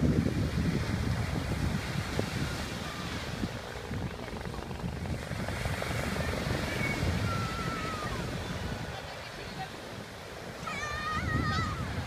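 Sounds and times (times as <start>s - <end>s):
helicopter rotor beating: 0.0s - 12.0s.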